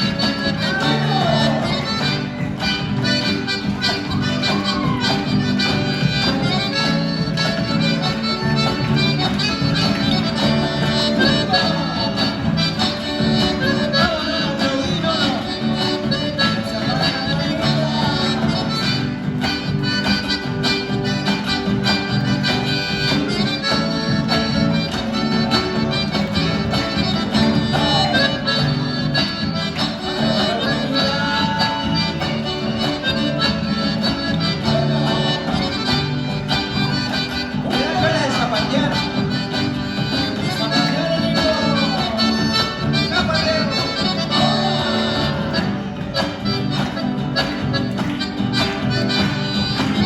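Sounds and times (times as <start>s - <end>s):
lively reedy melody: 0.0s - 50.0s
rhythmic accompaniment: 0.0s - 50.0s
strummed guitar chords: 0.0s - 50.0s.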